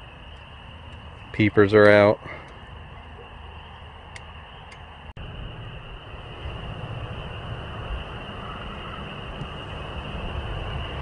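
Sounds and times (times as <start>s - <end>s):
frogs peeping in chorus: 0.0s - 11.0s
low rumble: 0.0s - 11.0s.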